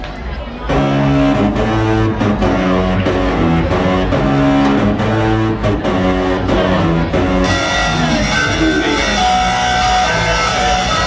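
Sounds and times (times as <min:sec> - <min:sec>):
rock music with guitar: 0:00.9 - 0:11.0.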